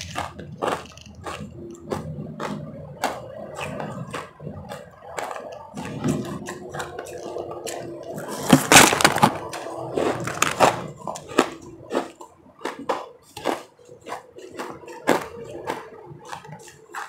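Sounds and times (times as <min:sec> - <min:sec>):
crunching and chewing ice: 0:00.0 - 0:17.0.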